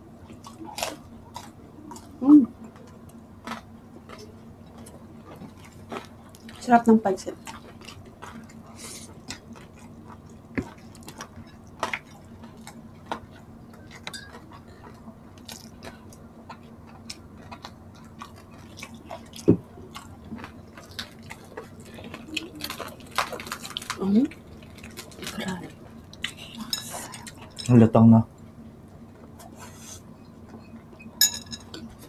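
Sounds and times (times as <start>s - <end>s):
close-up chewing: 0.0s - 27.7s
faint steady hum: 0.0s - 32.0s.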